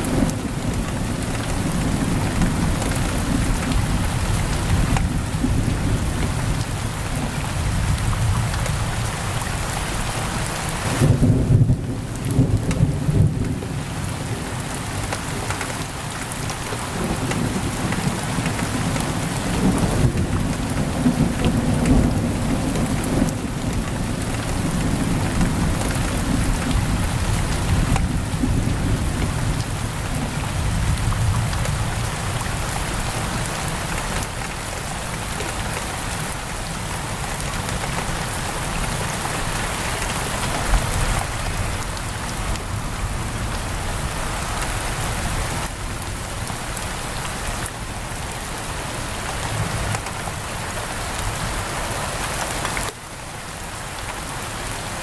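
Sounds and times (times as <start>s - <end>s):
heavy rain against window: 0.0s - 55.0s.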